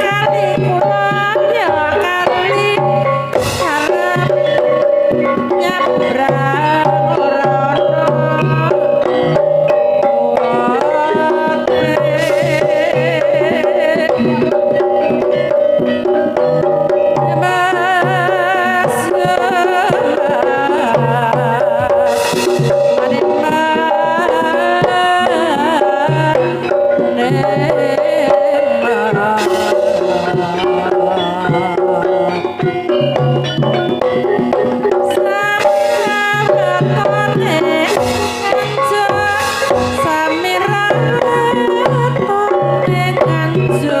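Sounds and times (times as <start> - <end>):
band playing instrumental music: 0.0 - 44.0
hand drum rhythm: 0.0 - 44.0
wavering ornamented melody: 0.0 - 44.0.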